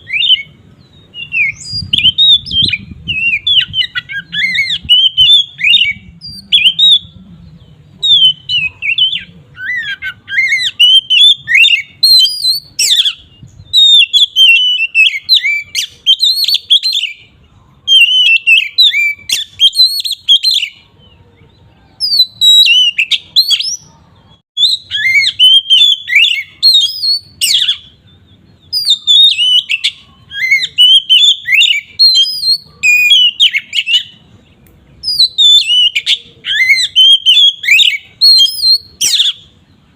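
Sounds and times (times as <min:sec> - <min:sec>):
songbird singing whistled notes: 0:00.0 - 0:39.9.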